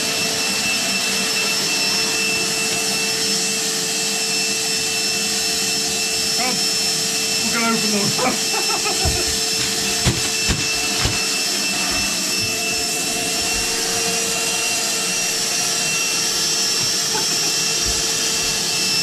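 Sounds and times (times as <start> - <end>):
machine droning with high whine: 0.0 - 19.0.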